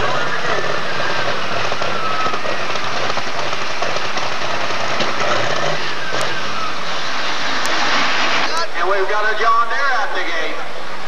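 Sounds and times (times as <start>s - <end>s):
tractor engine running loud: 0.0s - 9.3s.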